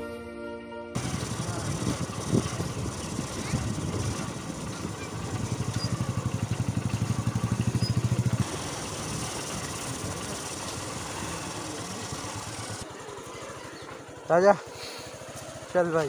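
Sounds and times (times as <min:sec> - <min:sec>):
motorcycle engine puttering: 0:01.0 - 0:16.0.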